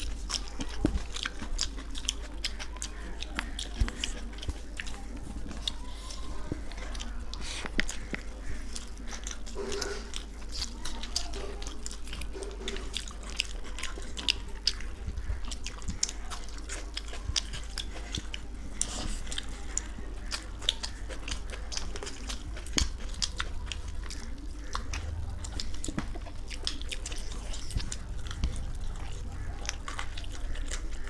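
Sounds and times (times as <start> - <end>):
people chewing food: 0.0 - 31.0
steady low hum: 0.0 - 31.0.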